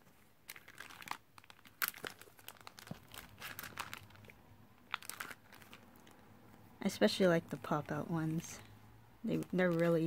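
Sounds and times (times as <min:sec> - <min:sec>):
plastic packets crinkling: 0:00.0 - 0:06.3, 0:07.4 - 0:10.0.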